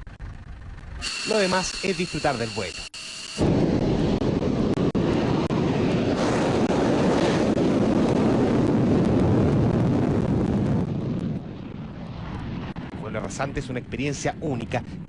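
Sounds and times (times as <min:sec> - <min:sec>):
jet engine roaring: 0:00.1 - 0:15.0.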